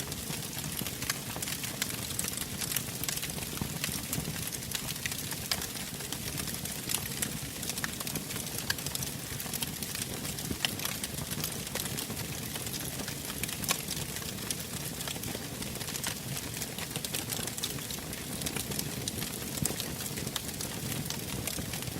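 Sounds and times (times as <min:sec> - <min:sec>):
logs crackling and popping: 0:00.0 - 0:21.9.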